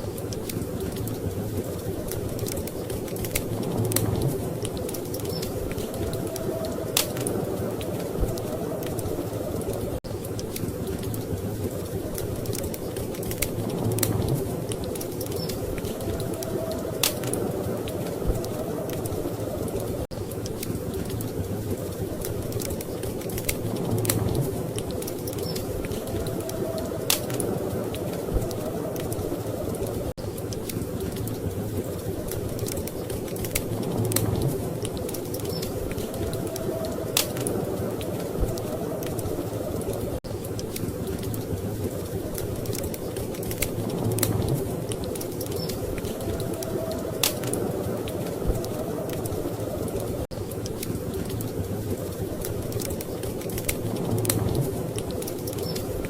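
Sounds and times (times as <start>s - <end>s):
storm wind rumbling: 0.0s - 56.0s
wood fire crackling and popping: 0.0s - 56.0s.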